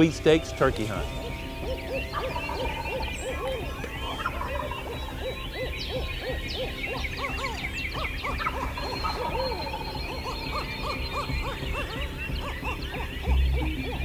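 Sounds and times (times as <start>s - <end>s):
repeated low bird calls: 0.0s - 14.0s
songbird chirps: 0.0s - 14.0s.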